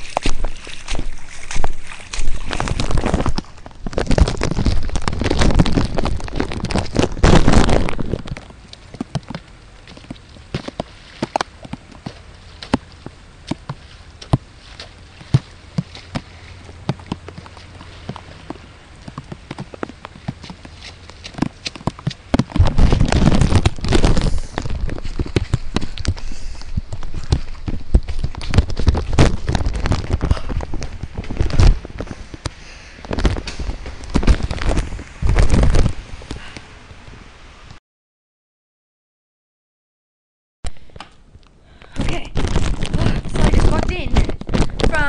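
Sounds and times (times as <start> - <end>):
raindrops tapping: 0.0 - 36.6, 41.8 - 45.0.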